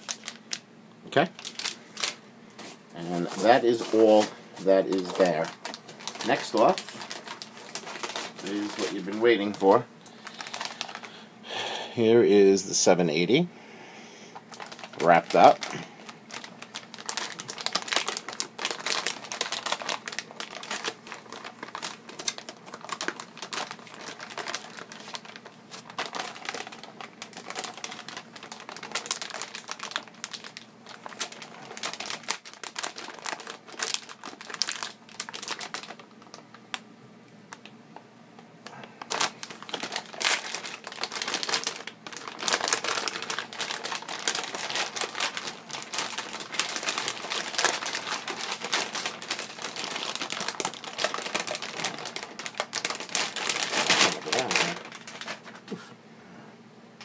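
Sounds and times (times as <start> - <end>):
plastic bag crackling: 0.0 - 11.3, 14.4 - 36.8, 38.6 - 55.7.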